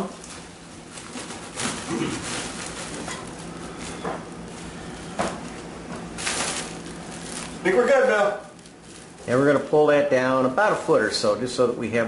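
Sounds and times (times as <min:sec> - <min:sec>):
tubing rustling and scraping: 0:00.0 - 0:11.6.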